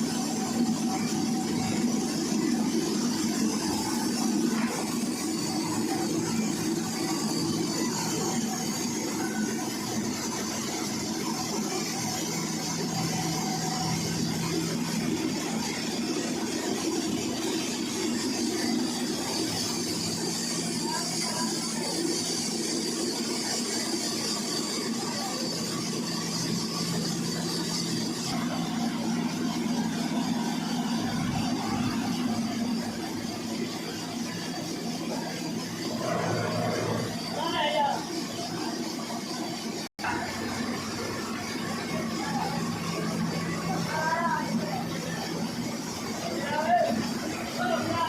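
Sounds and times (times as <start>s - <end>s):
high whine: 0.0s - 48.0s
sawmill machinery humming: 0.0s - 48.0s.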